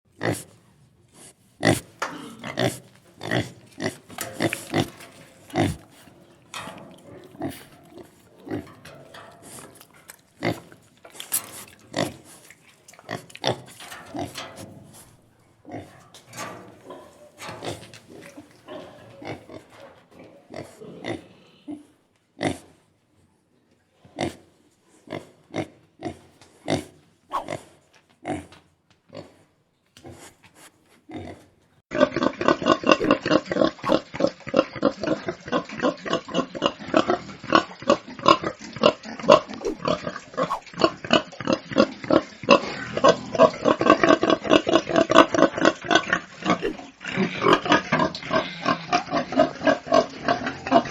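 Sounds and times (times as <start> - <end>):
pigs grunting: 0.1 - 0.6, 1.2 - 15.0, 15.7 - 22.7, 31.1 - 50.9.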